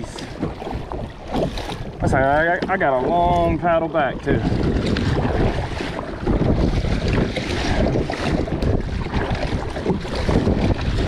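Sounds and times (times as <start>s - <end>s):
water slapping around kayak: 0.0s - 11.0s
wind buffeting microphone: 0.0s - 11.0s.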